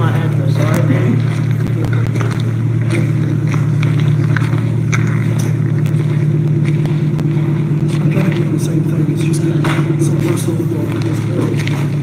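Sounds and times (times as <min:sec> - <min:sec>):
footsteps crunching on snow: 0:00.0 - 0:12.0
vehicle engine idling: 0:00.0 - 0:12.0.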